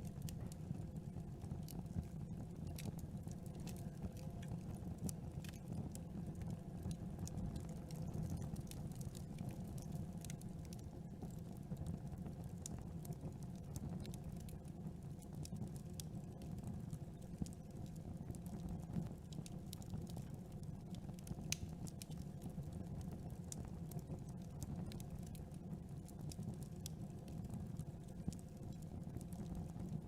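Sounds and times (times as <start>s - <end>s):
burning wood crackling and popping: 0.0s - 30.0s
low rumble of flames: 0.0s - 30.0s.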